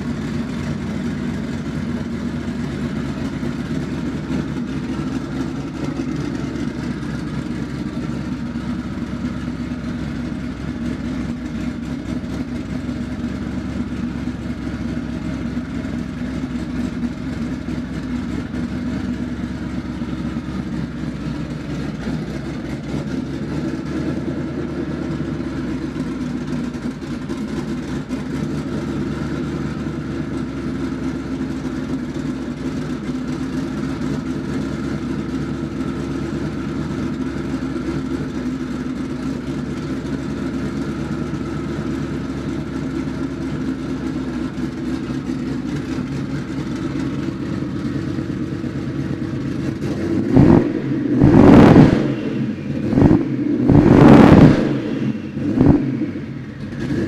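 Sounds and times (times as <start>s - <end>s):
unmuffled engine idling: 0.0s - 57.0s.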